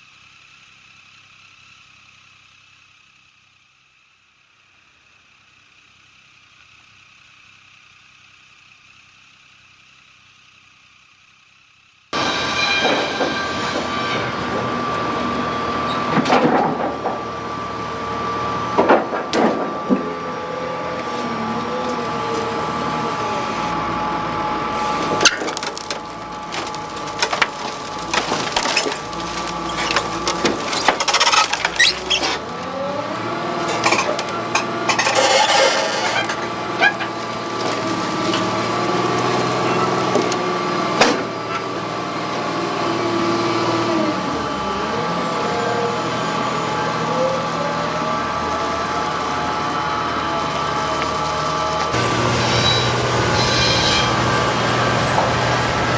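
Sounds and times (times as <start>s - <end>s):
heavy truck engine running: 0.0s - 55.9s.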